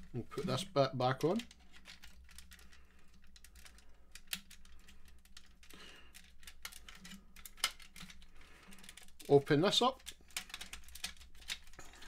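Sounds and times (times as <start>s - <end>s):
plastic toy parts clicking: 0.0s - 12.0s.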